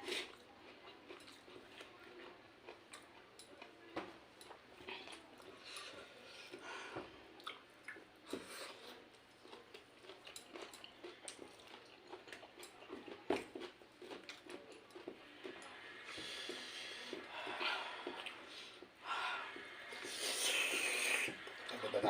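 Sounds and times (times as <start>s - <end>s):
people chewing noodles: 0.0s - 22.0s.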